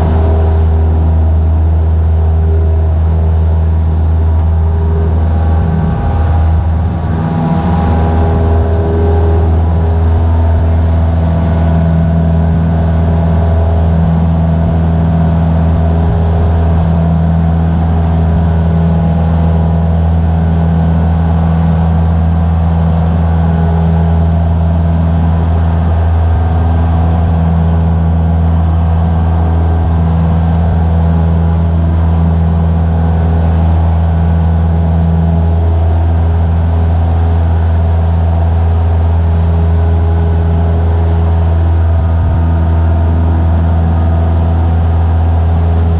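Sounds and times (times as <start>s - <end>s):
propeller plane engine droning: 0.0s - 45.9s.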